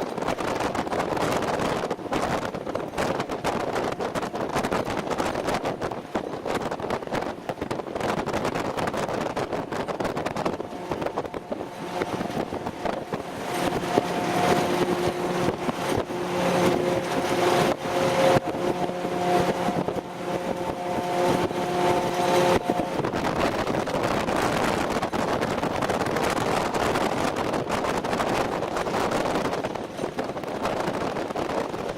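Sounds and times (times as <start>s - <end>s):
road and wind noise: 0.0s - 31.9s
steady engine tone: 2.8s - 31.9s.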